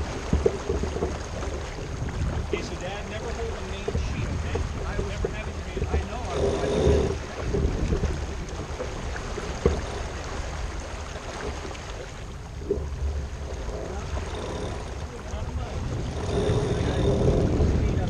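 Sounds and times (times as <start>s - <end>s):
water rushing along hull: 0.0s - 18.0s
wind buffeting microphone: 0.0s - 18.0s.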